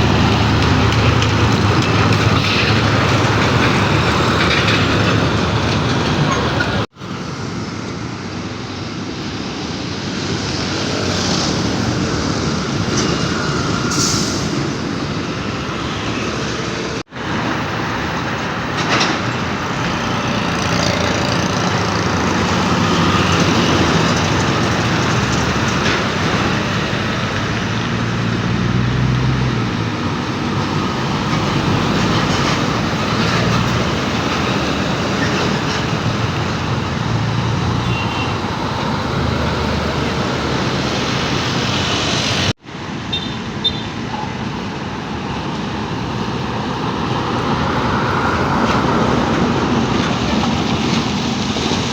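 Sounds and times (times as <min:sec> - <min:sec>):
diesel truck engines: 0:00.0 - 0:51.9
tyres on road: 0:00.0 - 0:51.9.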